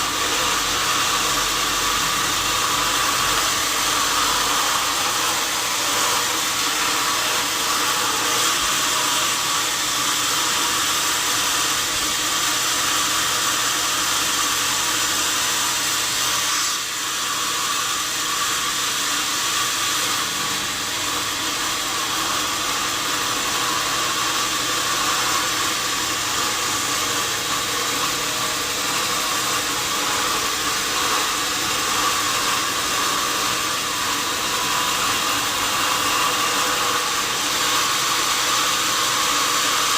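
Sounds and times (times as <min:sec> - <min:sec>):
sawmill saw hissing: 0:00.0 - 0:39.9.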